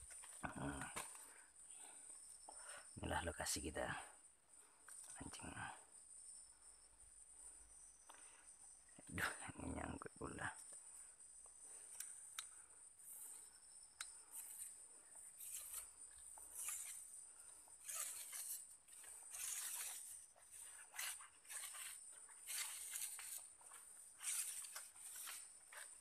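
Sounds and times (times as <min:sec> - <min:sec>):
high-pitched insect drone: 0:05.0 - 0:25.9.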